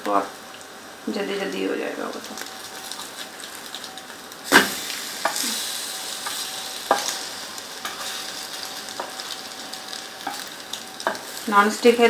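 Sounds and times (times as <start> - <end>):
bread sizzling in a pan: 0.1 - 12.0.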